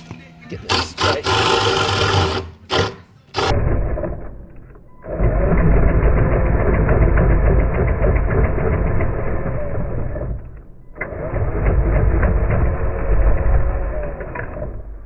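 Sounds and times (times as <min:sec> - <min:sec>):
power drill boring: 0:00.7 - 0:15.0.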